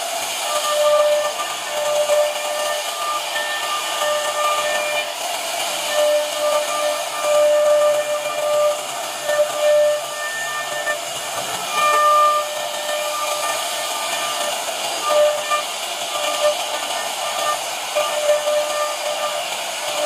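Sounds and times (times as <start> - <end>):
hiss of wood cutting: 0.0 - 20.0
router spindle high whine: 0.0 - 20.0.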